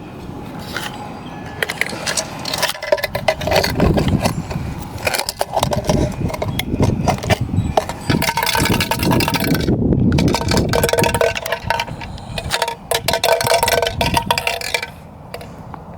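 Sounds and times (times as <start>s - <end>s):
metal clicks and scrapes of can: 0.6s - 15.6s.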